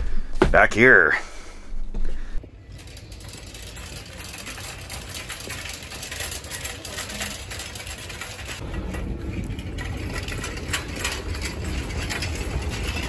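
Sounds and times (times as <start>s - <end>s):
shopping cart rattling: 2.4s - 13.0s.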